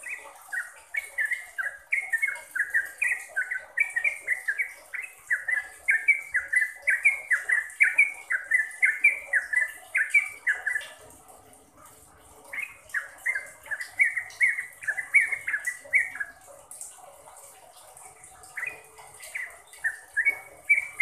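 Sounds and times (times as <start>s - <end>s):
bulbul singing: 0.0s - 21.0s.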